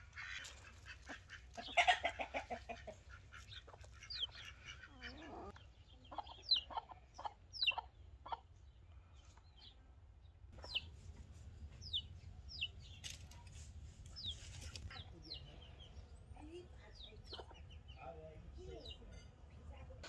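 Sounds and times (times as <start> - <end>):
chickens clucking: 0.0 - 9.7, 10.5 - 16.0, 17.0 - 18.0.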